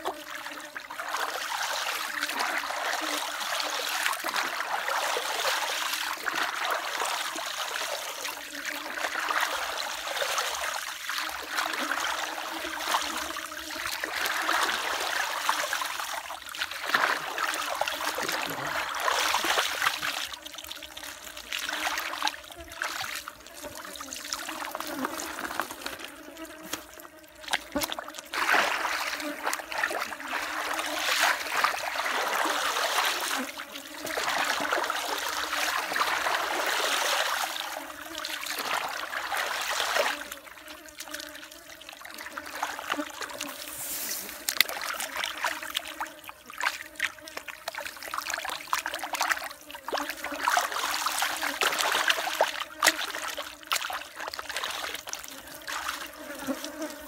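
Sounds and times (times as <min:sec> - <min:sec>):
mud and water sloshing: 0:00.9 - 0:57.0.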